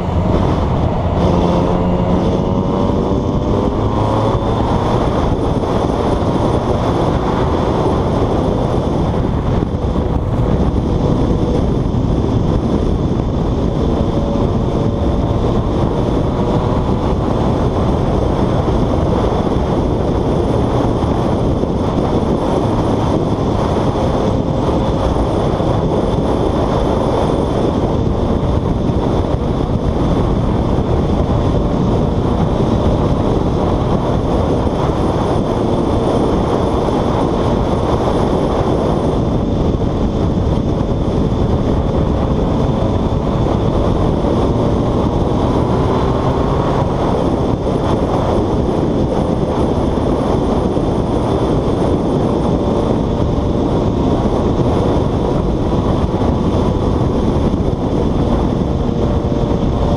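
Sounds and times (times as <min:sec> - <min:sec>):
motorcycle engine: 0:00.0 - 0:59.9
wind rushing over microphone: 0:00.0 - 0:59.9.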